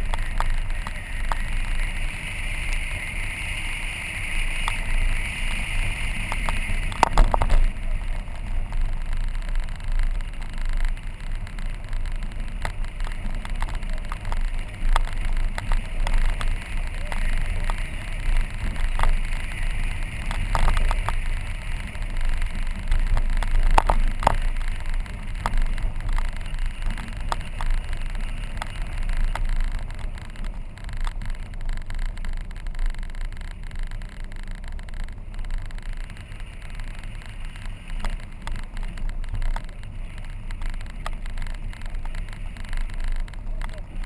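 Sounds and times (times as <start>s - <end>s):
car tyres rumbling on dirt road: 0.0s - 44.0s.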